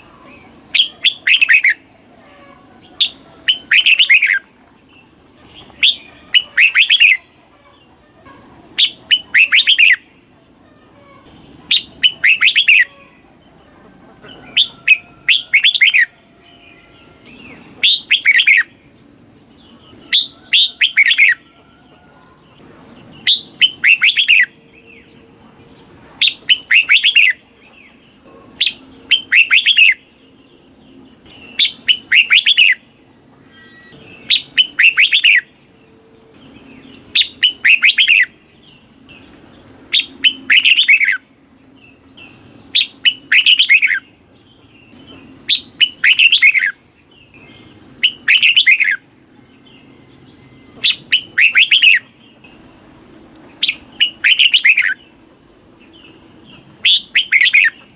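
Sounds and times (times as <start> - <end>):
bird singing whistled notes: 0.0 - 4.5, 5.6 - 7.3, 8.8 - 10.1, 11.7 - 13.2, 14.4 - 18.9, 19.8 - 22.4, 23.2 - 25.2, 26.2 - 28.0, 28.6 - 52.5, 53.6 - 55.2, 55.8 - 57.9.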